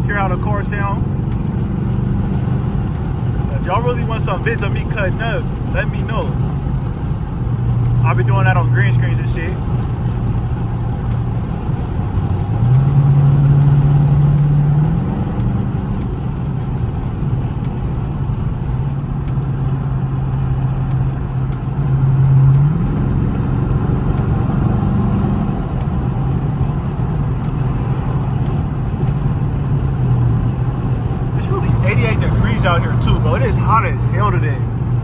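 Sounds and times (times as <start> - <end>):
loud car exhaust accelerating: 0.0 - 35.0.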